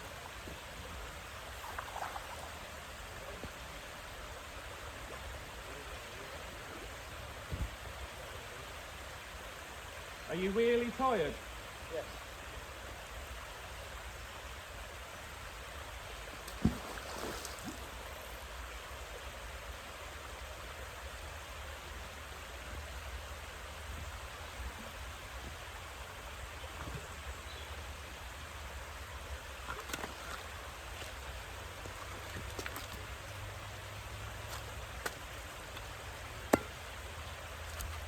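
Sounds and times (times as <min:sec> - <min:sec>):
water rushing: 0:00.0 - 0:38.0.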